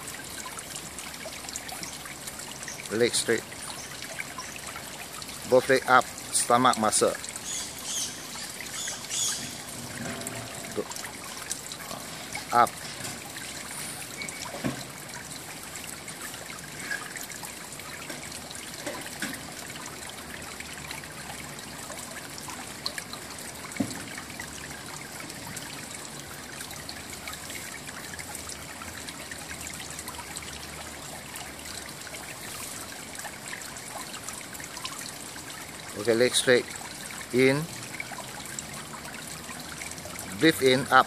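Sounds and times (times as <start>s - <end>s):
running water trickling: 0.0s - 41.0s.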